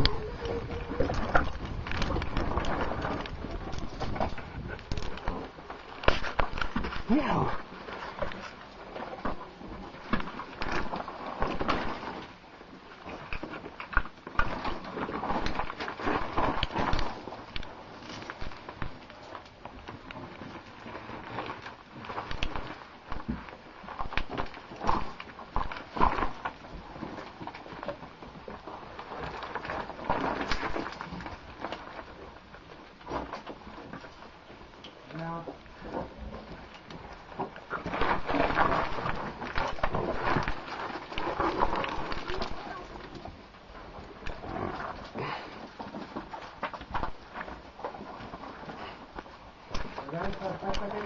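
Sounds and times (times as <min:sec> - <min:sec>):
gear scraping against rock: 0:00.0 - 0:51.0.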